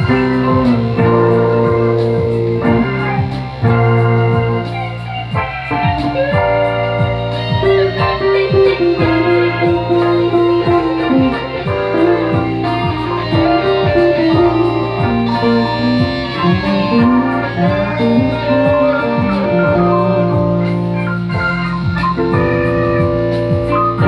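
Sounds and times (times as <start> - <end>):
guitar playing: 0.0 - 24.0
low bass note: 0.0 - 24.0.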